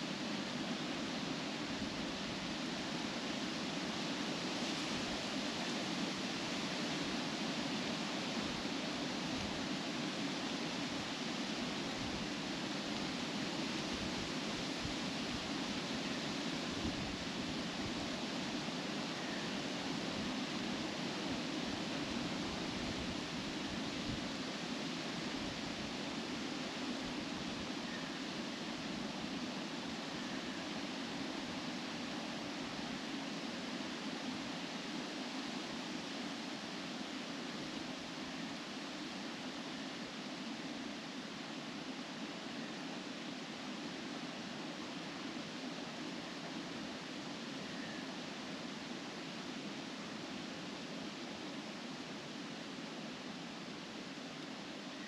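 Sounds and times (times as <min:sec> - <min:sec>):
wind through trees: 0:00.0 - 0:55.0.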